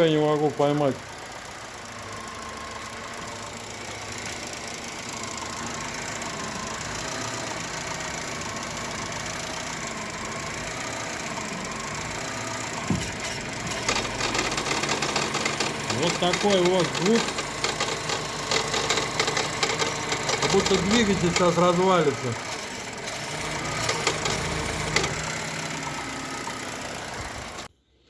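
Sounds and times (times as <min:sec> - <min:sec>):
petrol engine running: 0:00.0 - 0:27.7
loud rattling clatter: 0:00.9 - 0:27.7.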